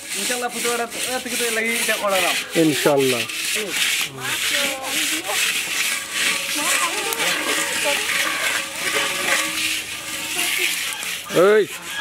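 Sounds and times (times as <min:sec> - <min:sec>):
hand rubbing mud on metal pot: 0:00.0 - 0:12.0.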